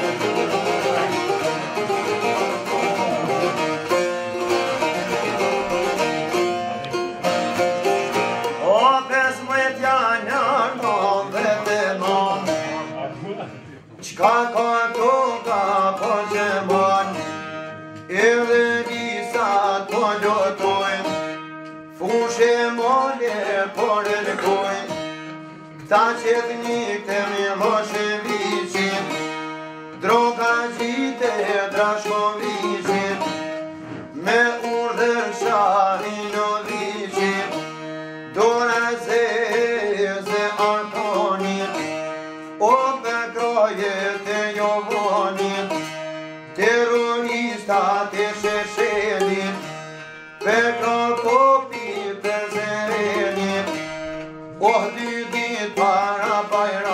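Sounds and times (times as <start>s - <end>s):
man singing folk song: 0.0s - 56.9s
plucked long-necked lutes: 0.0s - 56.9s.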